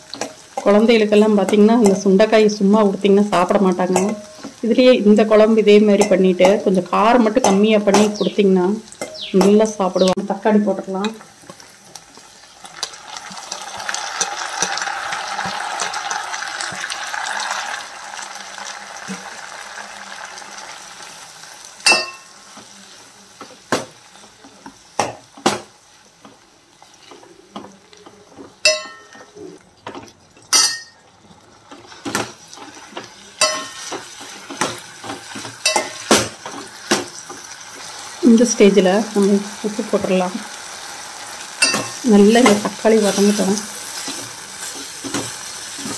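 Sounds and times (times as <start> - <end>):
tomatoes sizzling in hot oil: 0.0 - 45.9.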